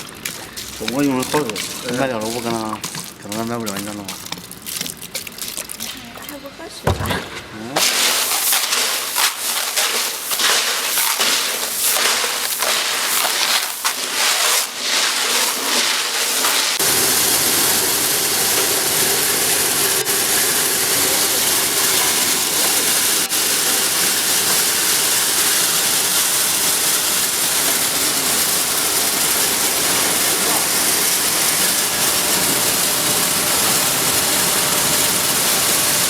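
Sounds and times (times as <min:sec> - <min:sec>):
milling machinery running: 0:00.0 - 0:06.6, 0:07.7 - 0:36.0.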